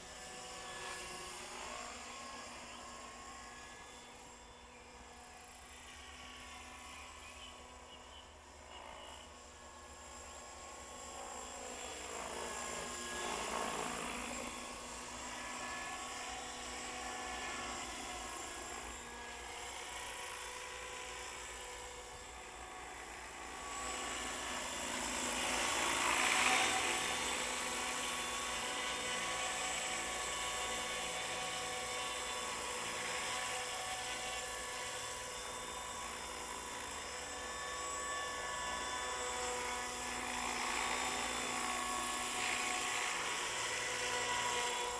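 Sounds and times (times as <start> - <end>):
model helicopter rotor whine: 0.0 - 44.9.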